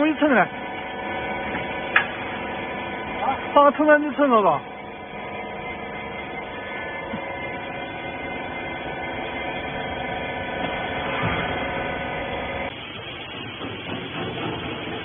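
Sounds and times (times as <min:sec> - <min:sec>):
hydraulic pump and motor humming: 0:00.0 - 0:15.0.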